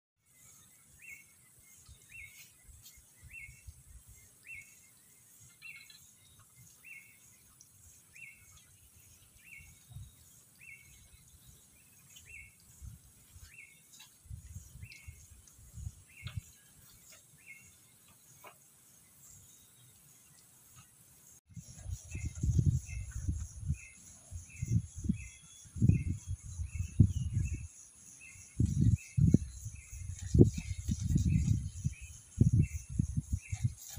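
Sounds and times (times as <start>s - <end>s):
insect hiss: 0.2s - 33.9s.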